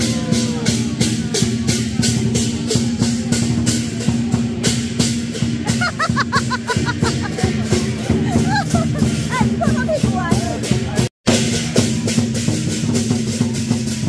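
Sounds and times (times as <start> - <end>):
cymbals clashing: 0.0 - 14.0
drum beating: 0.0 - 14.0.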